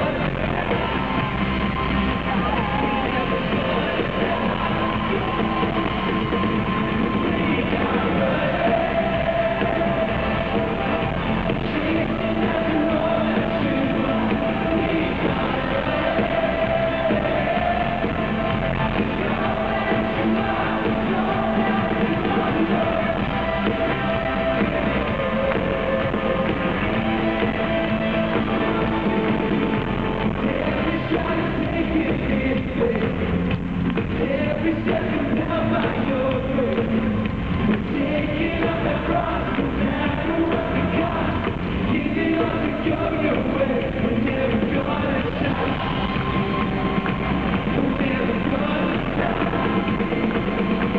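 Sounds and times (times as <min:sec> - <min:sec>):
drums: 0:00.0 - 0:50.9
electric guitar: 0:00.0 - 0:50.9.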